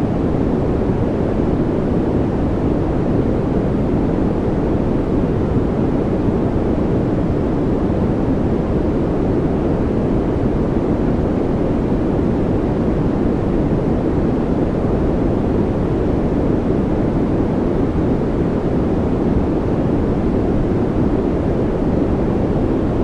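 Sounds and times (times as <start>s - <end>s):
white noise hiss: 0.0s - 23.0s.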